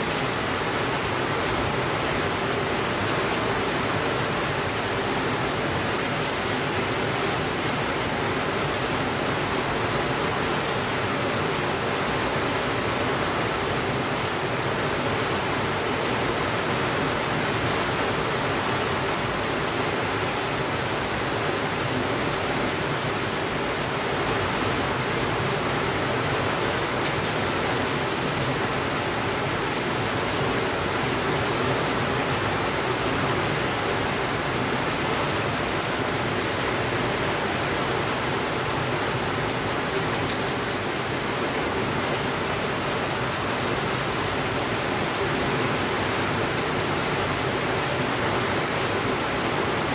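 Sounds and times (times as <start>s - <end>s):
steady rainfall hiss: 0.0s - 49.9s.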